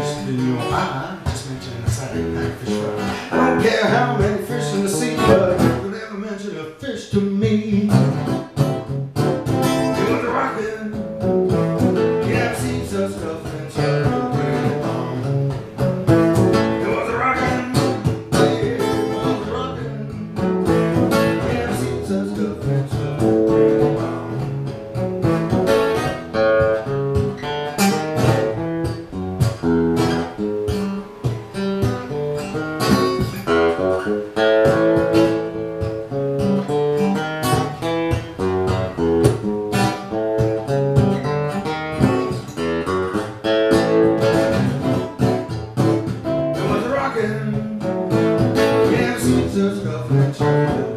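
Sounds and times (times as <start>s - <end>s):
acoustic guitar playing: 0.0s - 50.9s.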